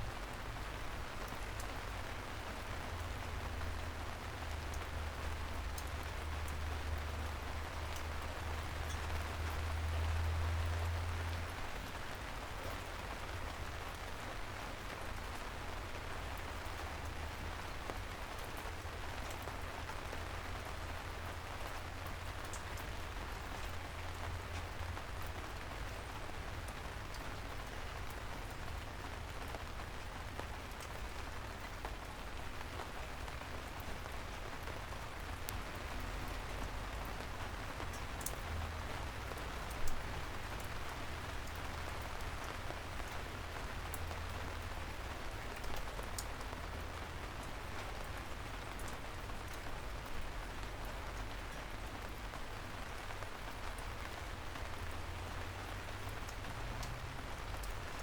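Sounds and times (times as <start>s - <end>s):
soft rain on a street: 0.0s - 58.0s.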